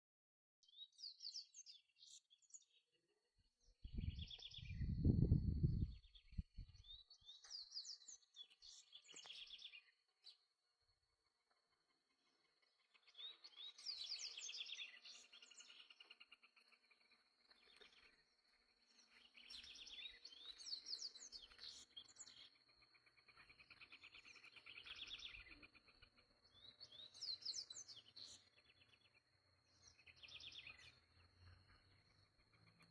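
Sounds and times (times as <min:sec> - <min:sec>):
bird twittering song: 0:00.6 - 0:03.0, 0:03.6 - 0:10.6, 0:11.4 - 0:32.9.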